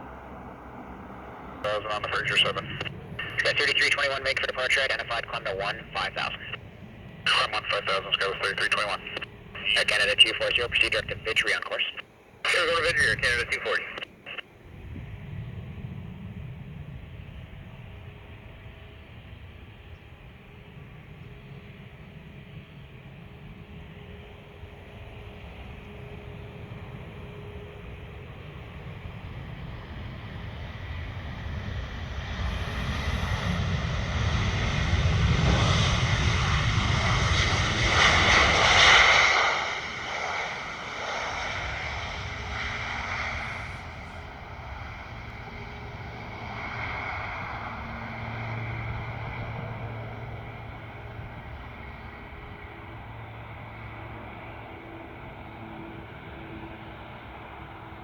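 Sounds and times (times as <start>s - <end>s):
airliner engine rumble and whine: 0.0s - 58.0s.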